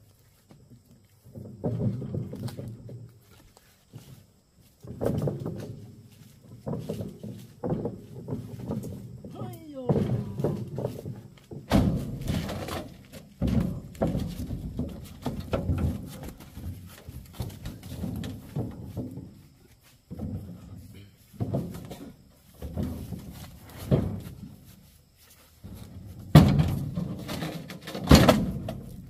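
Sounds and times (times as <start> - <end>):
dull thuds and knocks: 1.2 - 24.8, 25.5 - 29.0.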